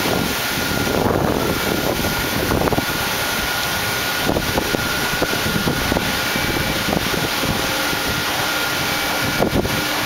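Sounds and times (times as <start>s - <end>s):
faint steady whine: 0.0s - 10.0s
machine-shop hiss and hum: 0.0s - 10.0s.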